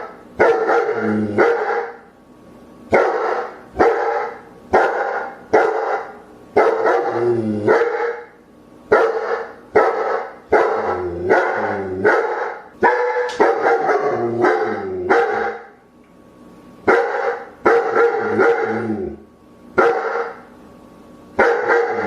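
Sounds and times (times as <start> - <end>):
dog barking: 0.0 - 2.0, 2.9 - 15.7, 16.9 - 18.9, 19.8 - 20.5, 21.4 - 22.0.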